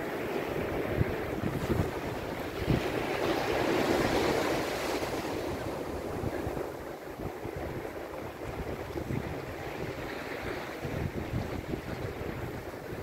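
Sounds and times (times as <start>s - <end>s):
surf washing over sand: 0.0s - 13.0s
wind buffeting microphone: 0.0s - 13.0s.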